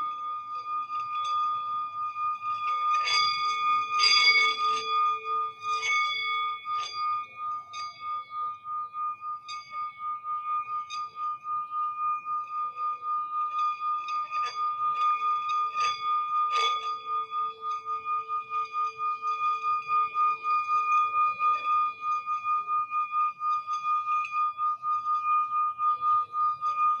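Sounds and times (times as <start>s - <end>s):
singing bowl ringing tone: 0.0s - 27.0s
singing bowl strikes: 0.0s - 27.0s.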